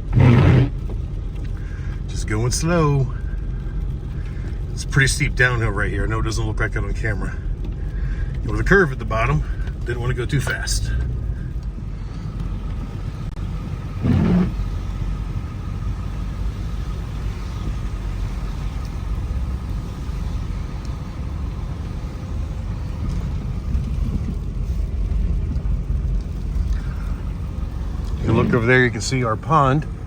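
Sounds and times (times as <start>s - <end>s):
engine and tyres rumbling: 0.0s - 30.0s.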